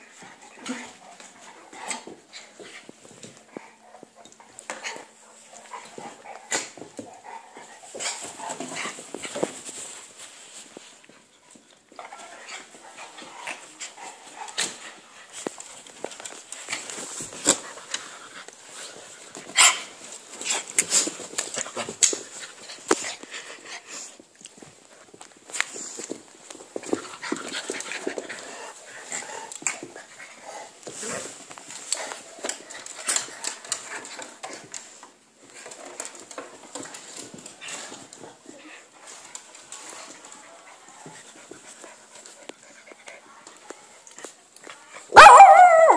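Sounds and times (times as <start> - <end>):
dogs scuffling: 0.0 - 45.9.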